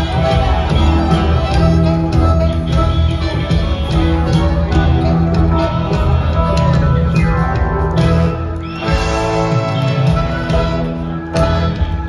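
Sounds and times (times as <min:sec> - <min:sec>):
electric guitar: 0:00.0 - 0:12.0
steady drum beat: 0:00.0 - 0:12.0.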